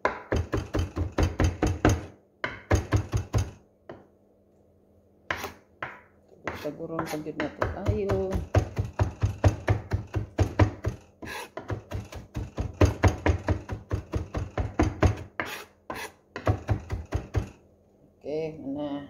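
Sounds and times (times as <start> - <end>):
knife chopping on wooden board: 0.0 - 4.0, 5.3 - 17.6.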